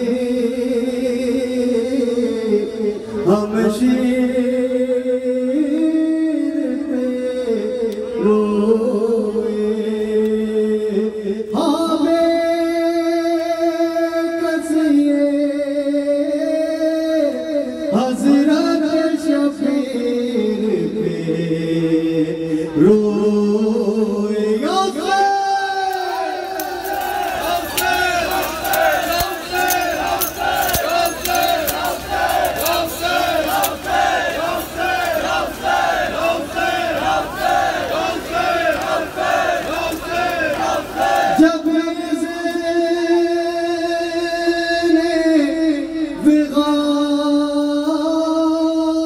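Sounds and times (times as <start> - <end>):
men chanting a lament: 0.0 - 49.0.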